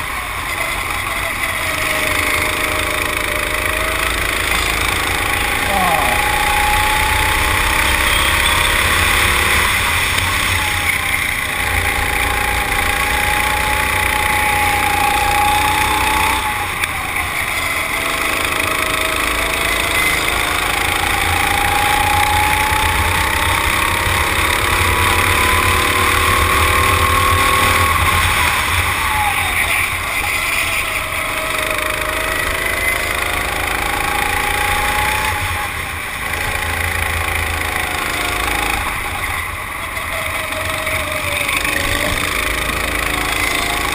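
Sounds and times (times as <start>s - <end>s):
kart engine revving: 0.0s - 43.9s.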